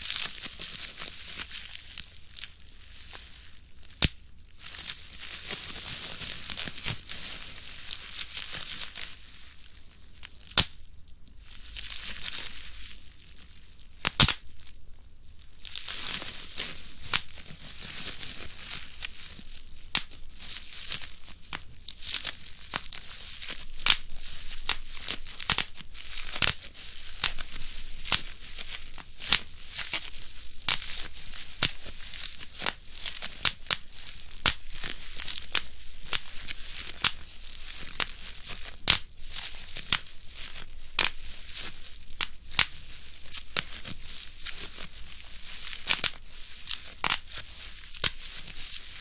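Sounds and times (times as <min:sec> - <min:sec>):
bubble wrap crinkling: 0:00.0 - 0:49.0
bubble wrap popping: 0:00.0 - 0:49.0.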